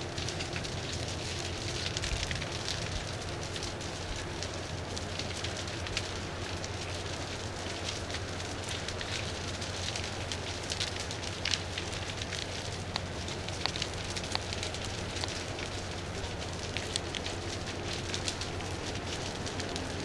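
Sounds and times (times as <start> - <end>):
bonfire crackling and popping: 0.0 - 20.0
fire rushing noise: 0.0 - 20.0.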